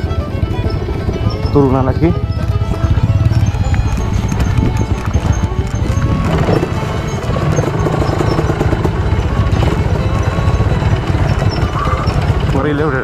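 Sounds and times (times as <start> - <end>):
background music: 0.0 - 13.0
motorcycle engine running at low revs: 0.0 - 13.0.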